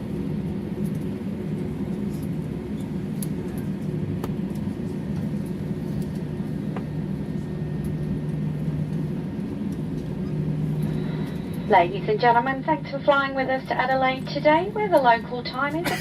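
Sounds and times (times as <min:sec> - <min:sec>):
airliner cabin hum: 0:00.0 - 0:16.0.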